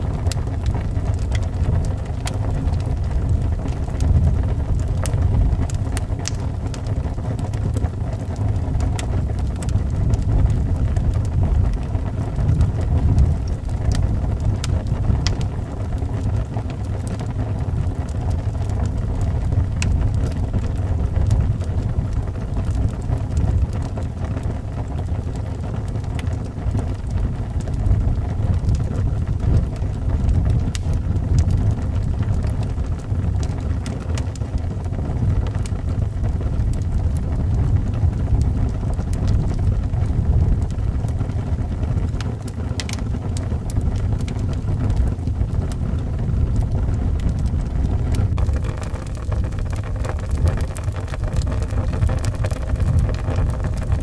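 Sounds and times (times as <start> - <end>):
howling wind: 0.0 - 54.0
wood fire crackling and popping: 0.0 - 54.0.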